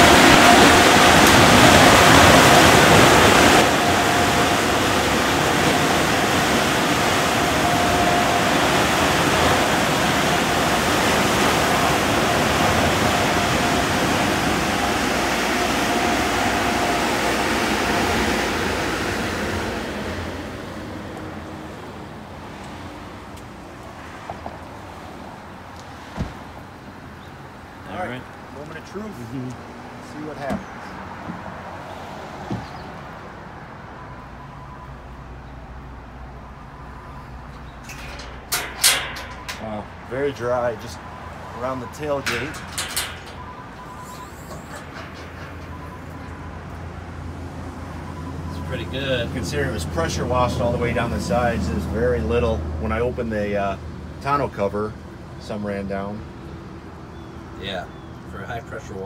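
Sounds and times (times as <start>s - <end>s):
car wash water spray and blowers: 0.0s - 57.1s.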